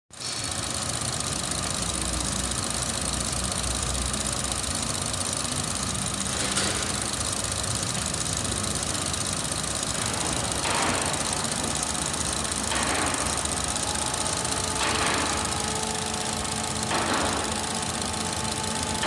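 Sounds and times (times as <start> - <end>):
car engine idling: 0.2 - 19.0.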